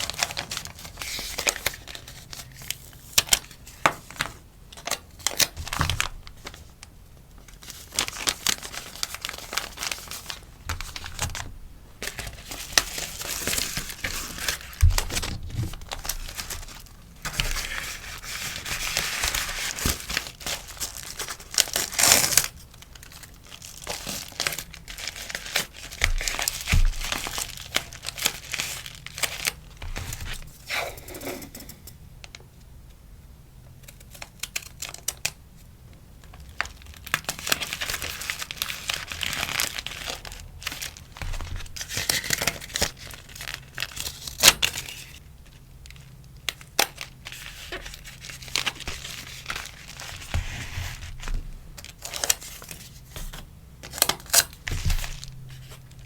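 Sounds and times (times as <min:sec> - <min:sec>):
paper and plastic rustling: 0:00.0 - 0:31.9, 0:36.2 - 0:56.0.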